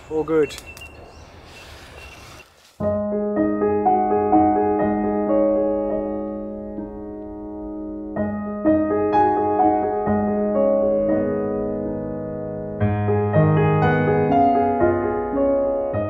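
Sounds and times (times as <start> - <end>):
slow piano music: 2.8 - 16.0.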